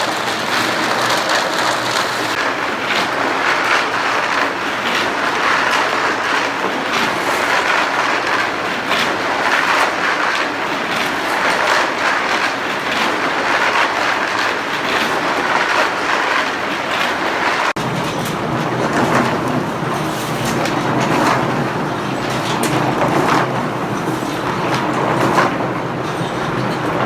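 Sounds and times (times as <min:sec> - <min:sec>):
heavy machinery rumbling: 0:00.0 - 0:14.5, 0:16.9 - 0:27.0.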